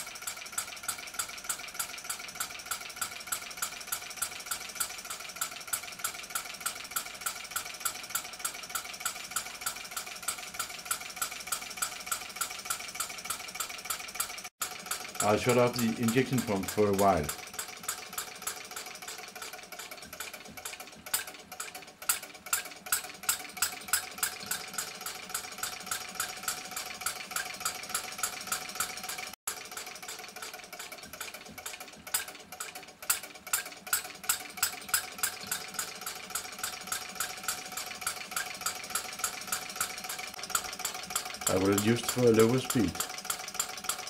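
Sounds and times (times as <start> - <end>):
model engine clicking: 0.0 - 44.0.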